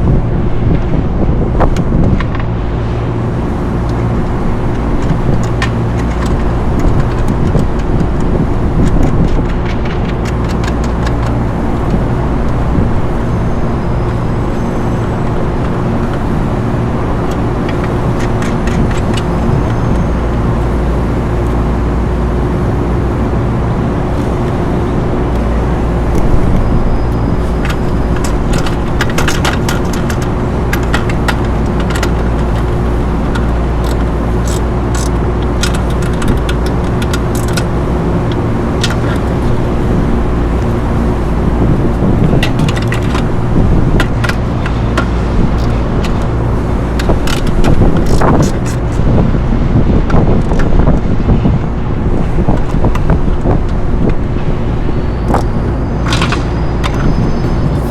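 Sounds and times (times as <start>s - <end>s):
low mechanical drone: 0.0s - 57.9s.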